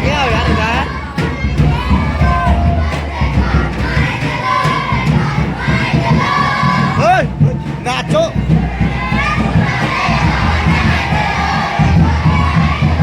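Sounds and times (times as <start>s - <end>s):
children chanting and shouting: 0.0s - 13.0s
music: 0.0s - 13.0s.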